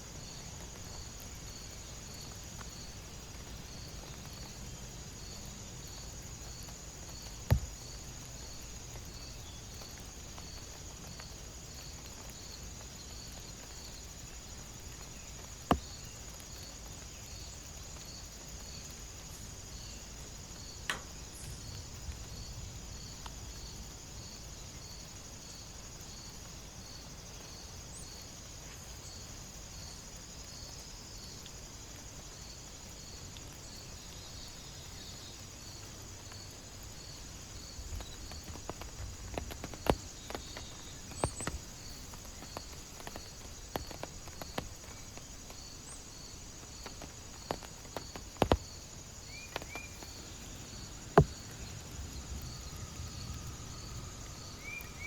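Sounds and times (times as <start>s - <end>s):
cricket chirping: 0.0s - 55.0s
faint low hiss: 0.0s - 55.0s
insects trilling: 0.0s - 55.0s.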